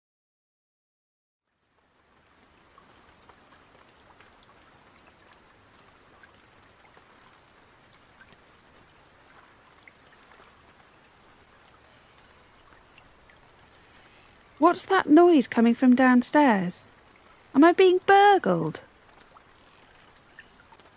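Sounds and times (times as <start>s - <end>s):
faint rain: 1.4s - 20.9s.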